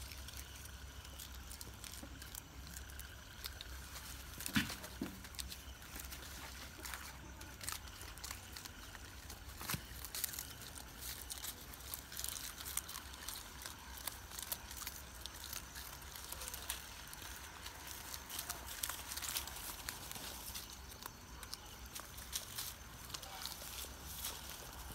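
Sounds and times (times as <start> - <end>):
goats stepping on straw and leaves: 0.0 - 24.9
low steady hum: 0.0 - 24.9.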